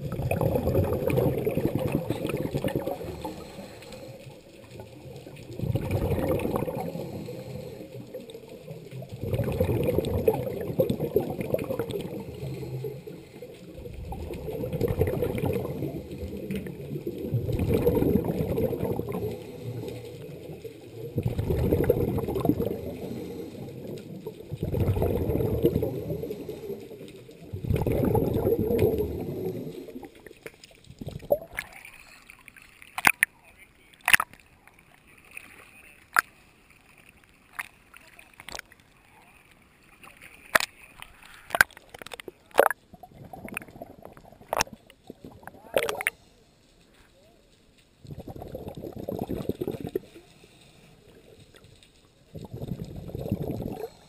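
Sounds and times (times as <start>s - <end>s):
exhaled bubbles gurgling underwater: 0.0s - 33.2s, 41.5s - 46.2s, 48.0s - 54.0s
water splashes: 0.0s - 54.0s.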